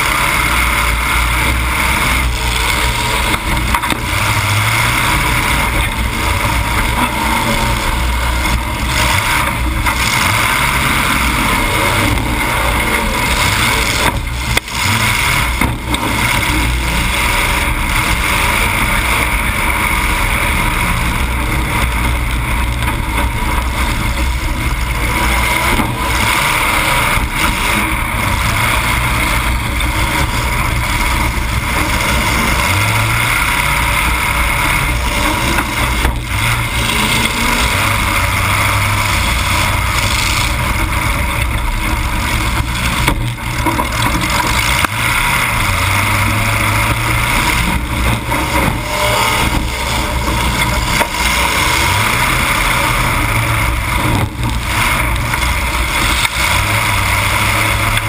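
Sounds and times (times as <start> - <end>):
loud car engine running: 0.0 - 58.0.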